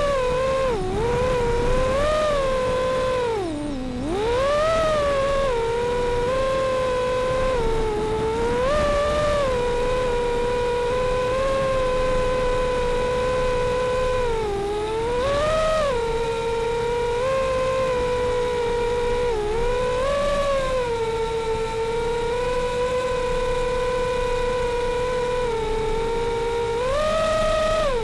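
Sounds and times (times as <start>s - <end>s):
quadcopter motors whining: 0.0s - 28.0s.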